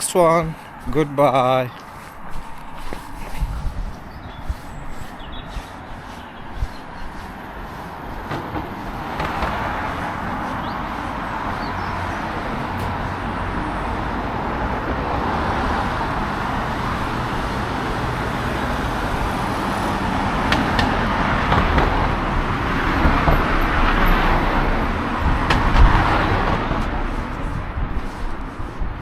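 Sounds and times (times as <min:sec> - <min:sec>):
cars passing close by: 0:00.0 - 0:29.0.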